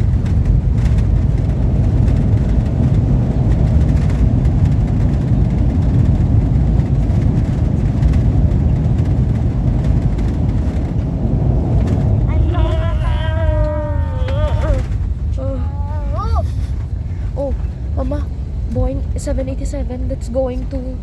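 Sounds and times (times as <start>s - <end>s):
airplane engines running: 0.0s - 21.0s
wheels rolling on pavement: 0.0s - 21.0s.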